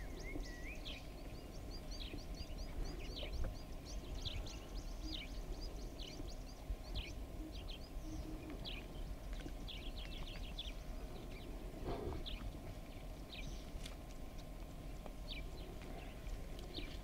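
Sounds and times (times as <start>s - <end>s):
birds chirping: 0.0s - 14.1s, 14.8s - 17.0s.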